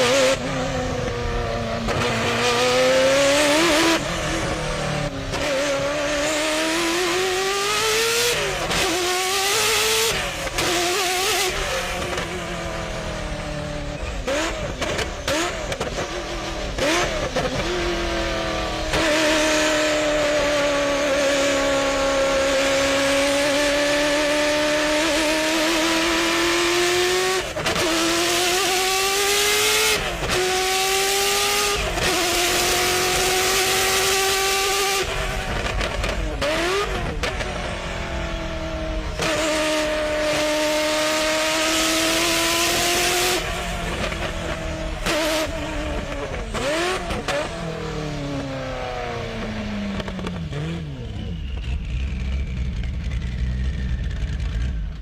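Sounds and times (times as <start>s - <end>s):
sports car engine revving hard: 0.0s - 55.0s.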